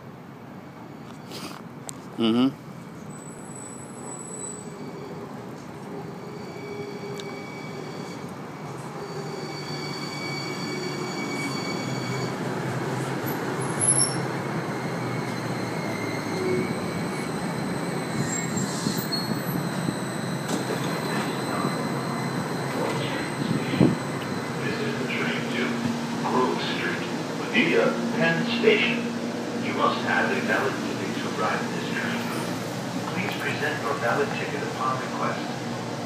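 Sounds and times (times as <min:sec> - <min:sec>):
train rolling rumble: 0:02.7 - 0:36.0.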